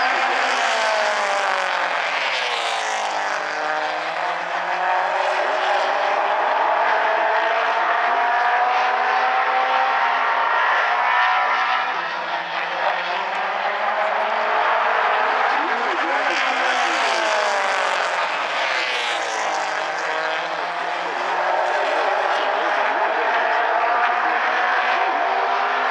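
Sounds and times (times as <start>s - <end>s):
race car engines accelerating: 0.0s - 25.9s.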